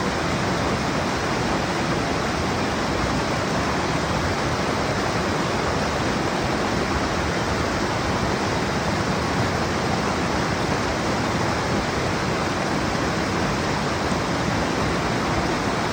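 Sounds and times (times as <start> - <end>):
stream water rushing: 0.0 - 15.9.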